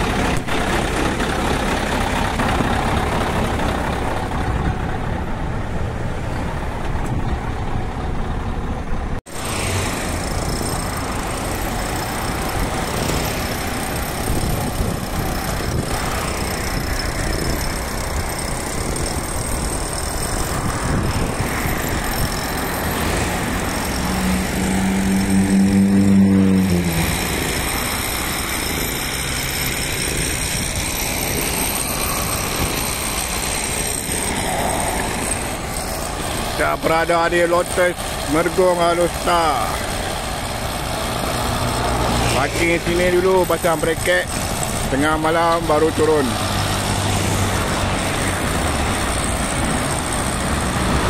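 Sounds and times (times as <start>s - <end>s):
heavy vehicle droning: 0.0s - 51.0s
highway traffic noise: 0.0s - 51.0s.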